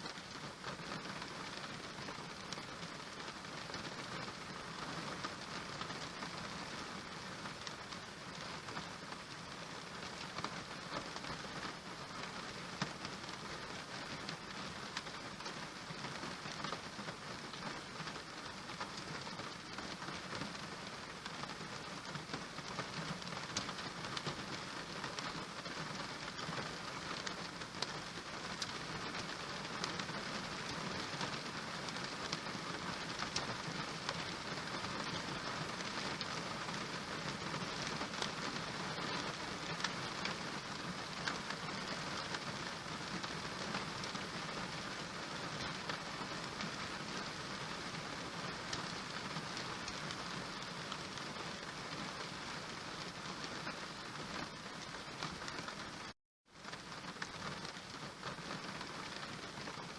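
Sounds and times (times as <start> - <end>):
raindrop ticks: 0.0 - 6.8, 7.5 - 59.9
steady rain hiss: 0.0 - 59.9.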